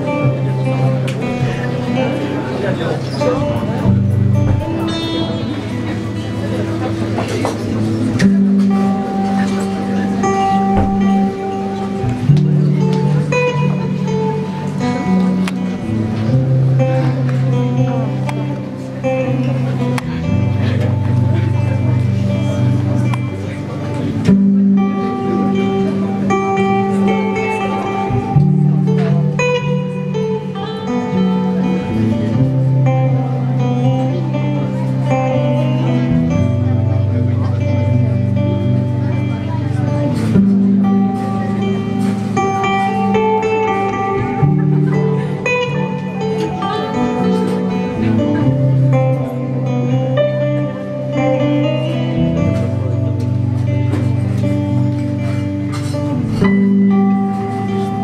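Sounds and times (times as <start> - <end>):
acoustic guitar chords: 0.0 - 58.0.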